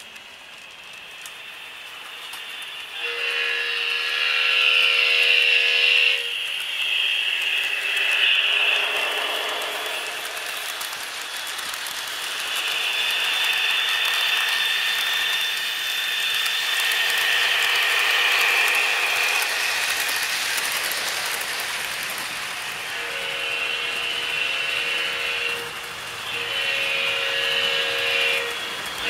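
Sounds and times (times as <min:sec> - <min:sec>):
model train motor whirr: 0:00.0 - 0:29.0
wheels on rails: 0:00.0 - 0:29.0.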